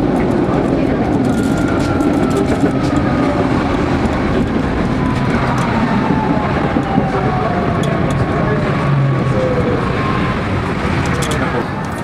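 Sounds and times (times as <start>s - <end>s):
tram motor whine: 0.0s - 12.0s
tram rumble and rail noise: 0.0s - 12.0s.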